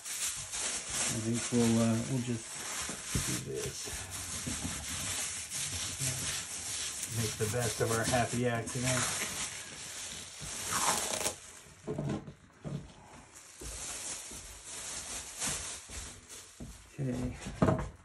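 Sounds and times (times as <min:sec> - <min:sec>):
handling sounds: 0:00.0 - 0:17.0
plastic bag crinkling: 0:00.0 - 0:17.1.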